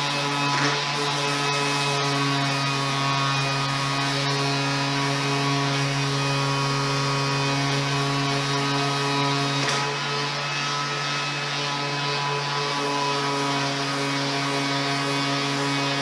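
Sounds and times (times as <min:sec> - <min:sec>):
sander humming on metal rim: 0:00.0 - 0:16.0.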